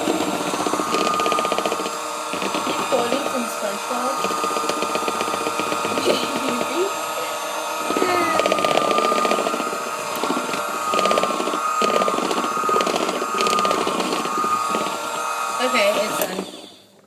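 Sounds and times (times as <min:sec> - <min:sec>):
electric hand mixer whirring: 0:00.0 - 0:17.0.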